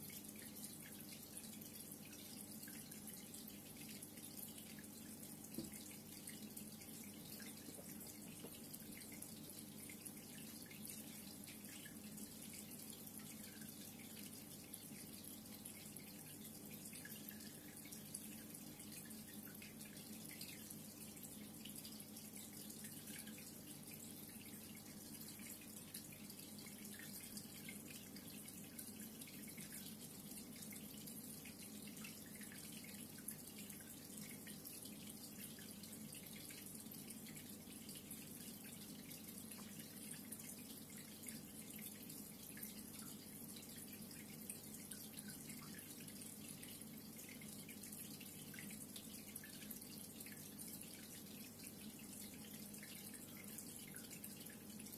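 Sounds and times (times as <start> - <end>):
low steady hum: 0.0 - 54.9
water trickling and dripping: 0.0 - 54.9.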